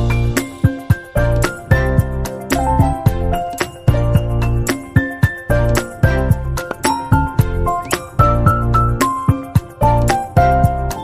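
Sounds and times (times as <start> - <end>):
light bright background music: 0.0 - 11.0.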